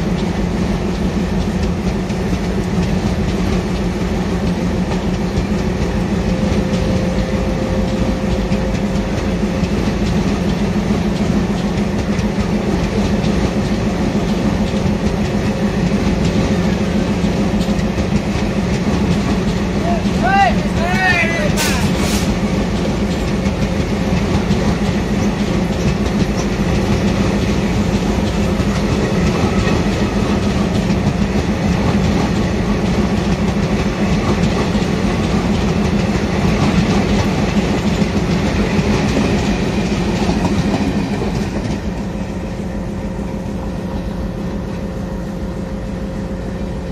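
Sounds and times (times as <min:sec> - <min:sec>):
train wheels clattering over rail joints: 0:00.0 - 0:44.4
low rumble of passing train: 0:00.0 - 0:46.9.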